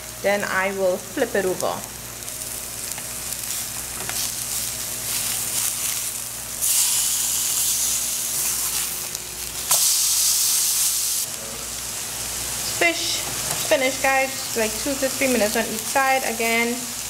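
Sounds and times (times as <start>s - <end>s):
fish sizzling in a frying pan: 0.5s - 17.0s.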